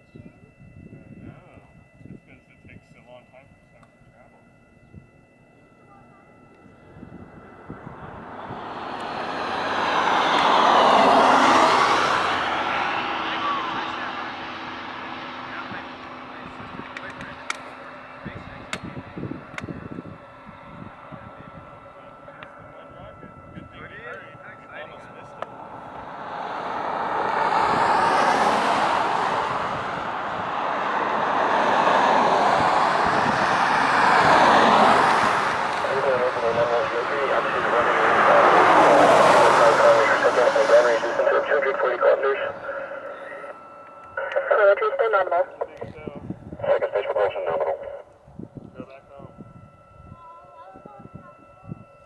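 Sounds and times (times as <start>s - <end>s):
distant rocket engine roar: 0.3s - 52.0s
cars passing at speed: 6.6s - 48.7s.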